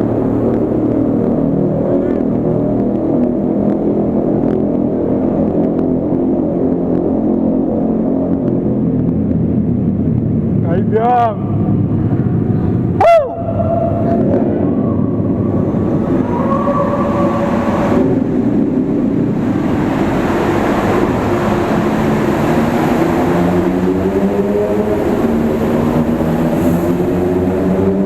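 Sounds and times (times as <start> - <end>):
vehicle engine hum: 0.0 - 28.0
wind and road noise: 0.0 - 28.0.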